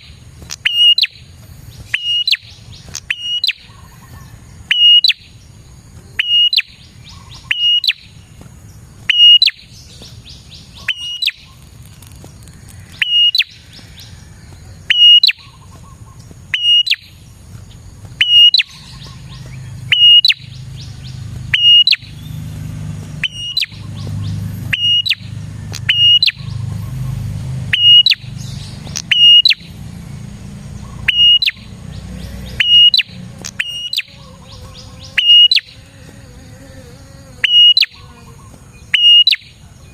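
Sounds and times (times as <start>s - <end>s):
bird calling sharp notes: 0.0s - 5.4s, 6.1s - 8.3s, 9.0s - 11.9s, 12.8s - 17.3s, 18.2s - 39.6s.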